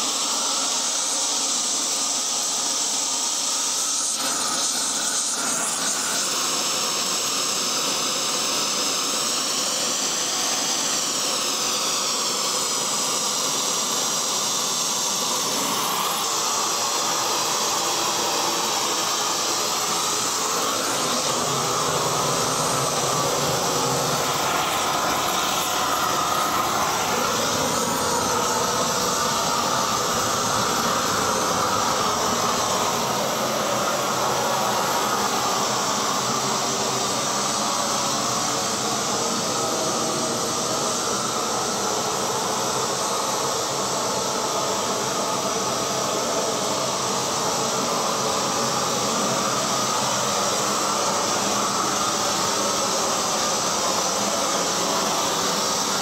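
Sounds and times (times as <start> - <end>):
propane torch hissing: 0.0 - 56.0.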